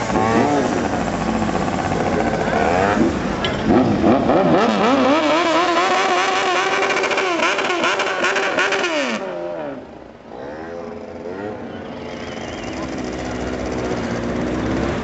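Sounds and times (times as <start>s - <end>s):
scooter engine revving: 0.0s - 10.0s, 12.3s - 15.0s.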